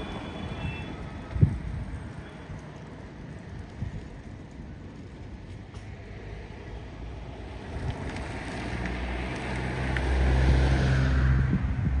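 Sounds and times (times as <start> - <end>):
tyre noise on road: 0.0 - 12.0
vehicle engine hum: 0.0 - 12.0.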